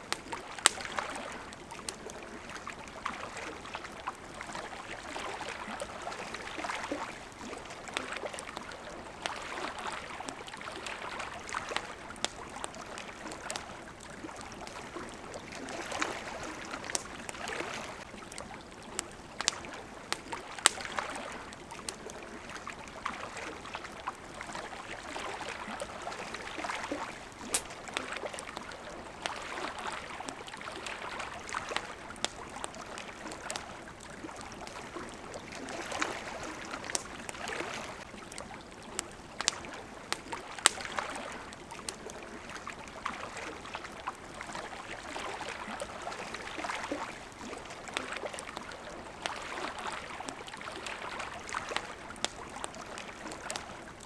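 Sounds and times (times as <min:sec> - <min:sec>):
campfire crackling: 0:00.0 - 0:54.0
water lapping: 0:00.0 - 0:54.0.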